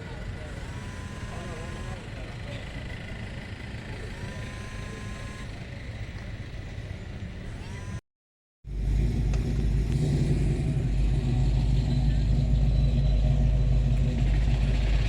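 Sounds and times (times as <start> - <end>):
car engine idling: 0.0 - 7.8, 8.7 - 15.0
low engine rumble: 0.0 - 8.0, 8.7 - 15.0.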